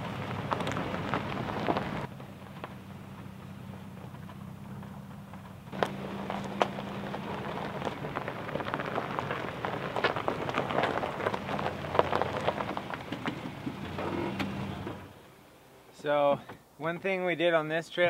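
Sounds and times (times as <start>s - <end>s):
tyres crunching over gravel: 0.0s - 15.3s
low engine hum: 0.0s - 15.5s.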